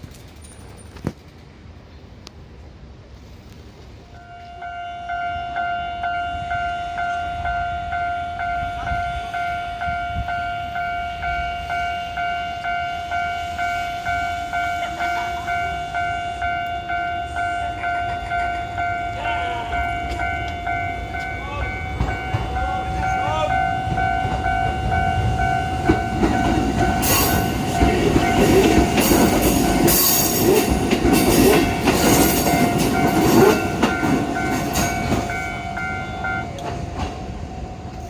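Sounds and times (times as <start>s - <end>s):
train wheels rumbling and clicking: 0.0s - 4.6s, 6.0s - 38.0s
level-crossing bell two-tone clang: 4.2s - 30.5s, 31.1s - 36.6s.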